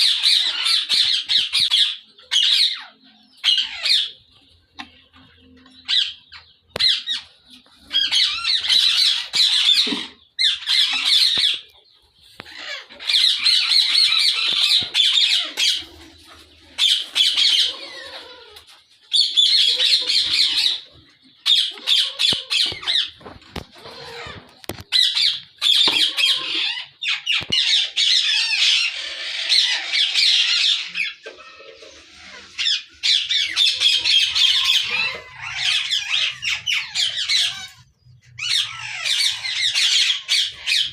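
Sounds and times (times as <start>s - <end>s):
parakeets calling loudly: 0.0s - 40.9s.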